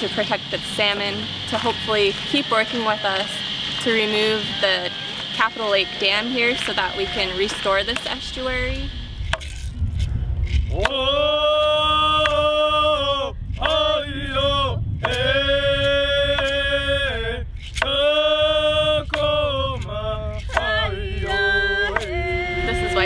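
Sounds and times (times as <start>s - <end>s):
voices singing a chant: 0.0s - 9.0s, 10.7s - 23.0s.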